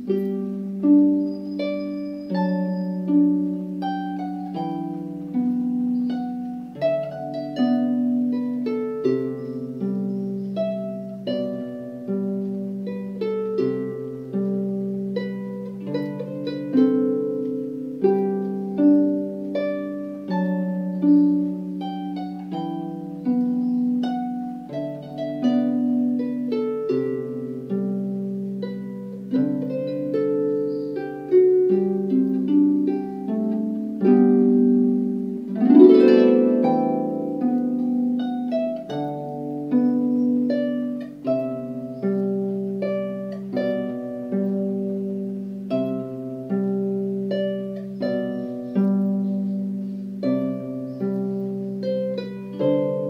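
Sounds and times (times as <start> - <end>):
solo harp melody: 0.0 - 53.0.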